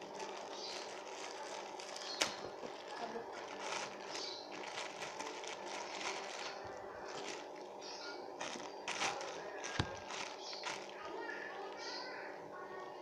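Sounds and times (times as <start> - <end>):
packaging rustling and crinkling: 0.0 - 7.8, 8.4 - 11.9.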